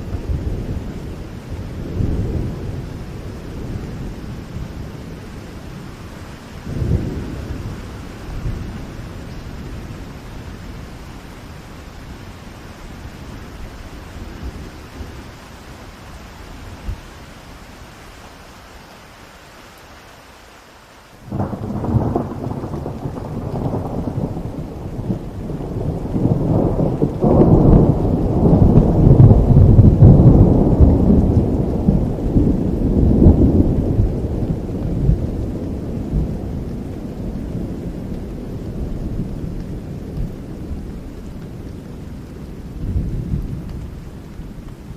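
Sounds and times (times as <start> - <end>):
thunderclap with rolling rumble: 0.0 - 15.3, 21.3 - 44.9
steady rain: 0.0 - 44.9.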